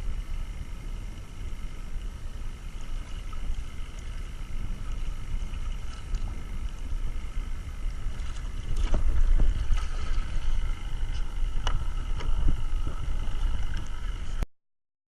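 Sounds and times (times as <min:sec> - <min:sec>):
faint high whine: 0:00.0 - 0:14.4
wind rumble on microphone: 0:00.0 - 0:14.4
water splashing: 0:02.0 - 0:14.4.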